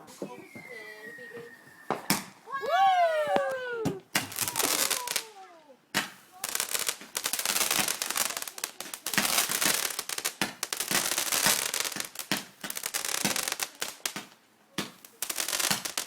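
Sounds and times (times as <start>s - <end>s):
fireworks crackling and cracking: 0.0s - 16.0s.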